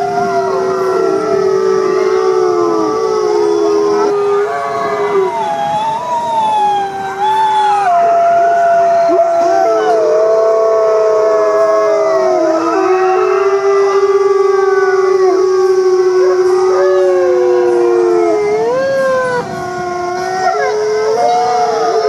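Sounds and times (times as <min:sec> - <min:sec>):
wolves howling: 0:00.0 - 0:22.0.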